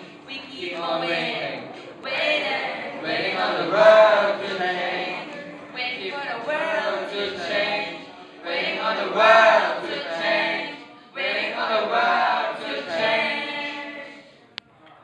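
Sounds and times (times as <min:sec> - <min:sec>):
boys singing together: 0:00.0 - 0:14.3.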